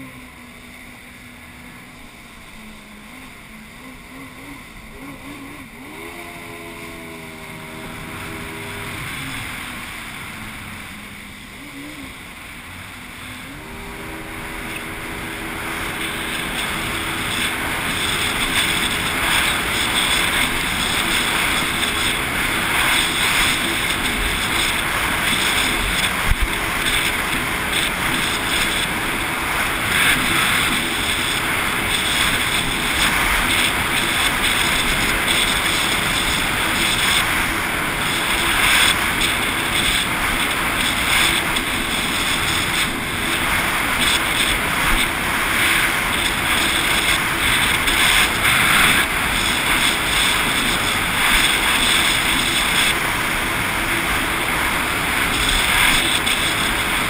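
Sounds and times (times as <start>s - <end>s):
personal watercraft engine running: 0.0s - 57.0s
rush of water and wind: 0.0s - 57.0s.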